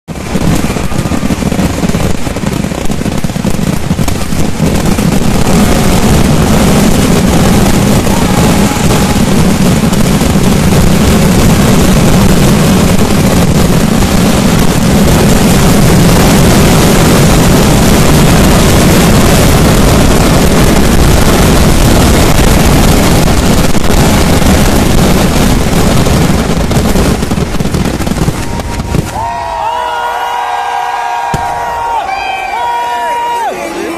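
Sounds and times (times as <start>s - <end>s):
firecracker explosions: 0.1s - 33.9s.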